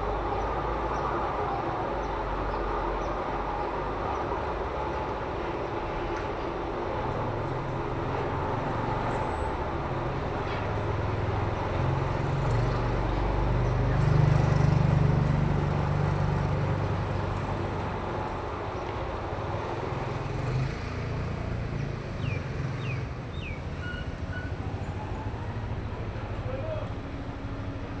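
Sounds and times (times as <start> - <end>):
road traffic noise: 0.0 - 28.0
vehicle engine hum passing: 0.0 - 28.0.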